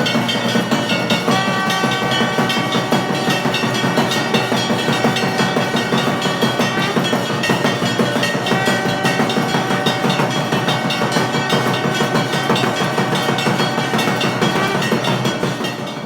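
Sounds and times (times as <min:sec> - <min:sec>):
clanging bells: 0:00.0 - 0:16.0
drums: 0:00.0 - 0:16.0
steady ringing tones: 0:00.0 - 0:16.0.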